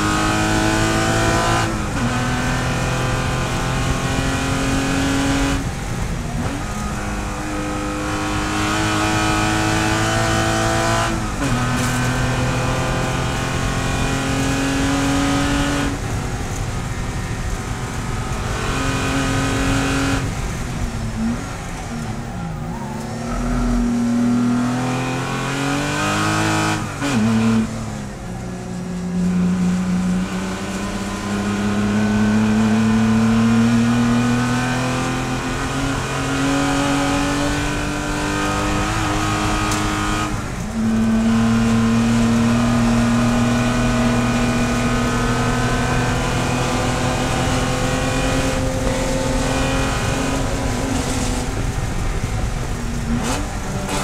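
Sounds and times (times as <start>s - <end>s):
racing engine at high revs: 0.0s - 54.0s.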